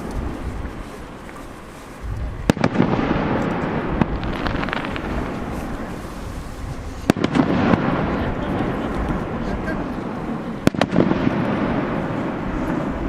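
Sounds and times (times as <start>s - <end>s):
fireworks crackling: 0.0s - 13.0s
fireworks bursting: 2.0s - 13.0s.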